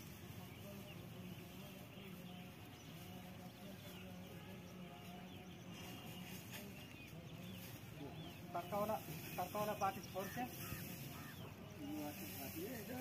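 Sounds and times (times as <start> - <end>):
small bird chirps: 0.0 - 13.0.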